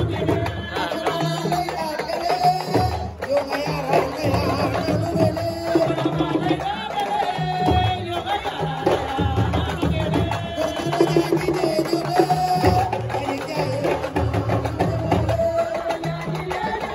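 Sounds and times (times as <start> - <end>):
drum rhythm: 0.0 - 16.9
woman singing into microphone: 0.0 - 16.9.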